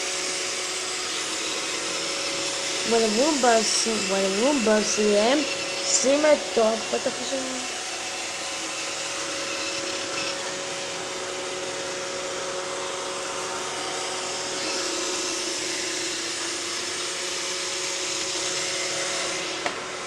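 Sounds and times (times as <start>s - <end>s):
robot vacuum whirring: 0.0s - 20.0s.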